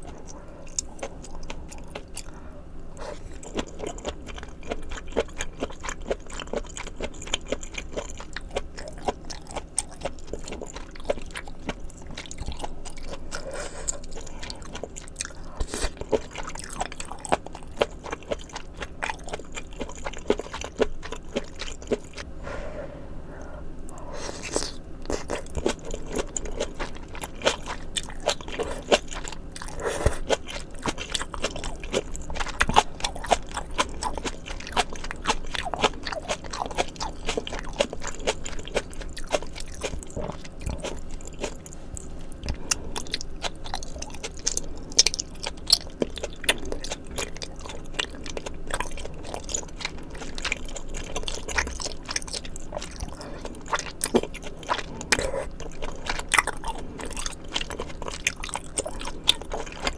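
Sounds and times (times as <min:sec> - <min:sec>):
close chewing and biting: 0:00.0 - 0:22.3, 0:23.8 - 0:59.9.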